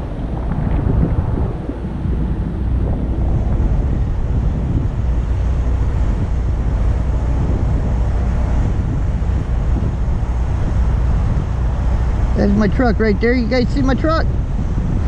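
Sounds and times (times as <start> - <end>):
wind across microphone: 0.0 - 15.0.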